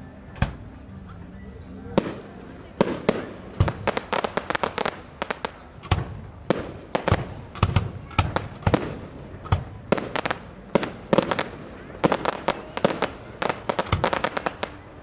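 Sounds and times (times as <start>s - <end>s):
fireworks bangs and crackles: 2.0s - 15.0s.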